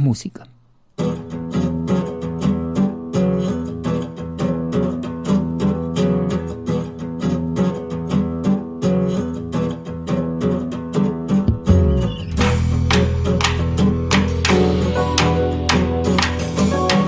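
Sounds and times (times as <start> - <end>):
acoustic guitar strummed: 0.6 - 17.0.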